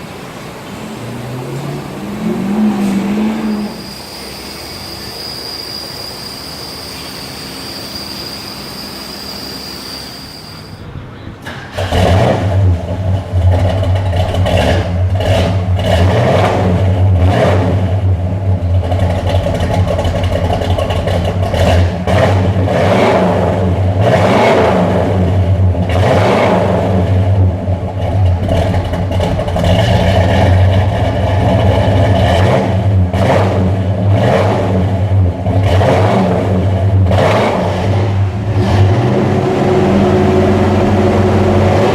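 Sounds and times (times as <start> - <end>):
car engine revving: 0.0 - 4.0, 11.4 - 41.9.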